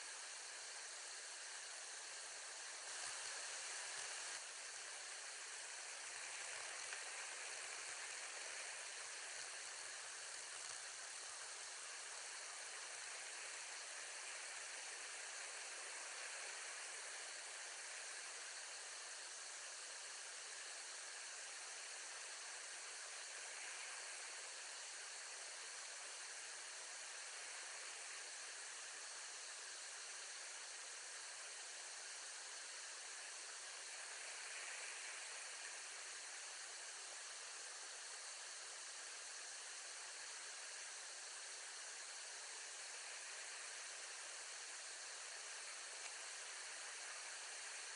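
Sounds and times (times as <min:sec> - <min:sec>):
steady microphone hiss: 0:00.0 - 0:47.9.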